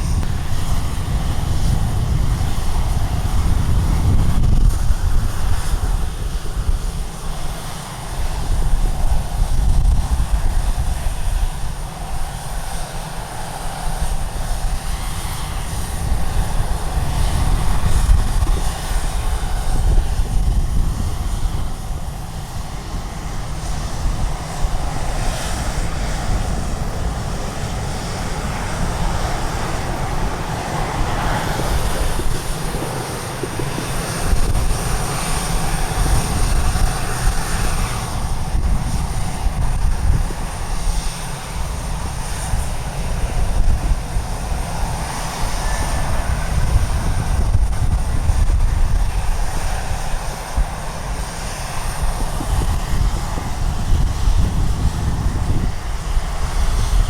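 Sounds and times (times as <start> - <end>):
jet aircraft engine noise: 0.0 - 57.0
wind gusting on microphone: 0.0 - 57.0.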